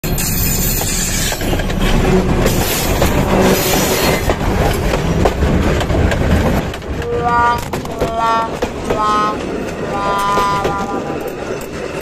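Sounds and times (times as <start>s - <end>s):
train wheels rumbling: 0.1s - 12.0s.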